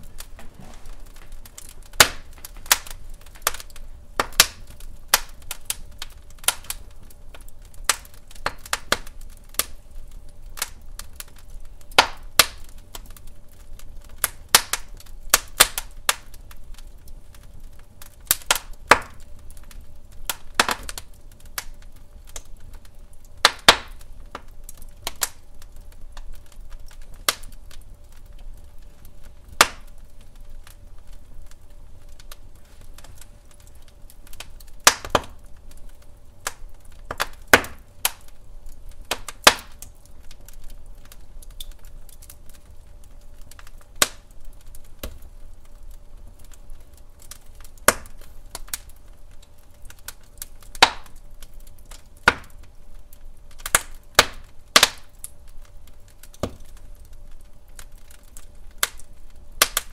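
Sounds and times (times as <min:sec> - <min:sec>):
log fire crackling and popping: 0:00.0 - 0:59.9
low rumble of burning: 0:00.0 - 0:59.9.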